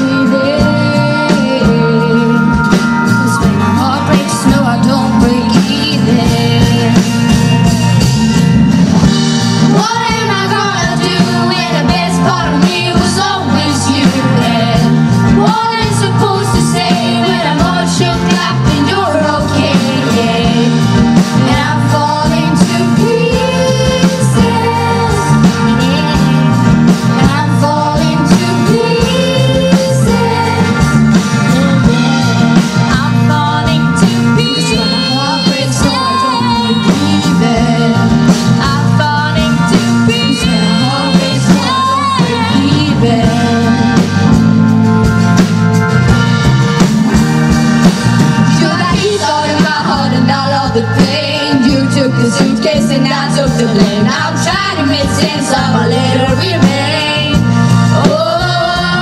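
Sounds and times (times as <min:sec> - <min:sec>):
women singing: 0:00.0 - 0:07.7, 0:09.6 - 0:44.3, 0:48.5 - 0:59.0
drums: 0:00.0 - 0:59.0
guitars: 0:00.0 - 0:59.0
keyboards: 0:00.0 - 0:59.0.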